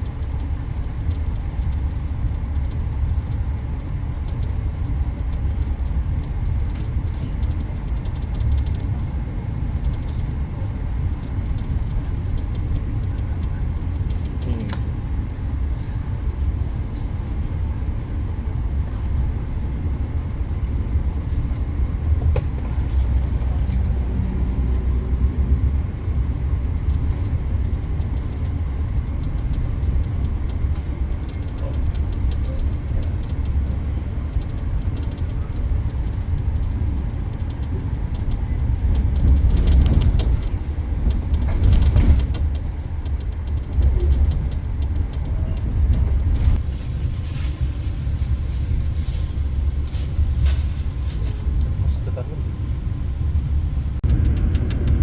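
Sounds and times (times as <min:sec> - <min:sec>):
train clicks and rattles: 0:00.0 - 0:55.0
train rumbling on track: 0:00.0 - 0:55.0.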